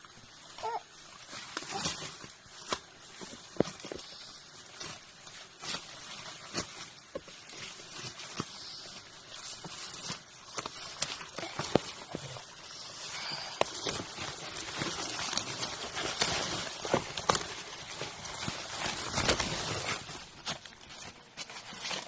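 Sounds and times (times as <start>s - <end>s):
leaves rustling: 0.0s - 22.0s.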